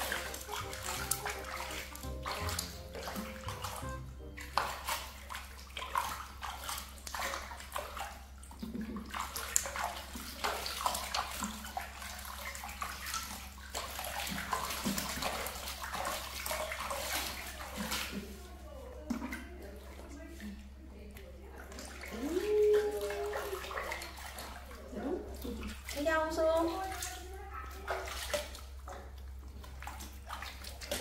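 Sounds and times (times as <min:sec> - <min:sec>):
quiet background music: 0:00.0 - 0:29.2
water splashing in bathtub: 0:00.0 - 0:31.0.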